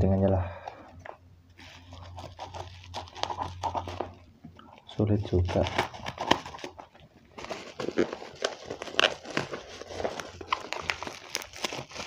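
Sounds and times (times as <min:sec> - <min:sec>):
plastic bag crinkling: 0:01.5 - 0:04.3, 0:04.9 - 0:12.0.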